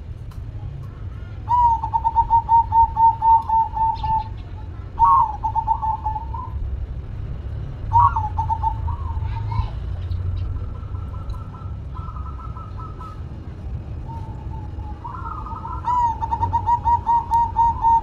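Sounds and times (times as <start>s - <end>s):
low background rumble: 0.0s - 18.0s
dove cooing: 1.0s - 6.7s, 7.8s - 18.0s.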